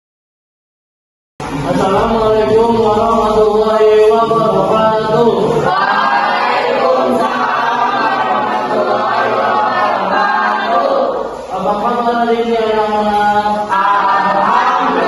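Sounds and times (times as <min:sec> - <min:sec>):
students chanting in unison: 0:01.7 - 0:15.0.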